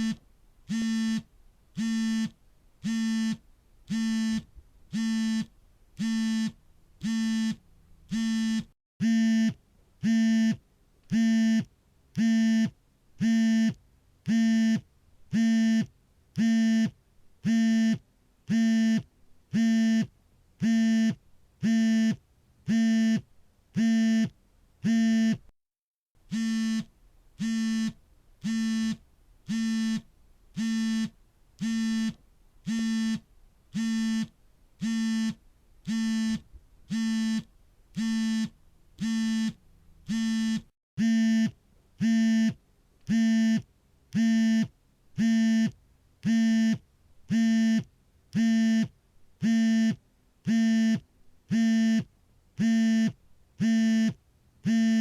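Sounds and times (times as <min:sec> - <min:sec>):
phone vibration buzzing: 0:00.0 - 0:23.2, 0:26.3 - 0:55.0.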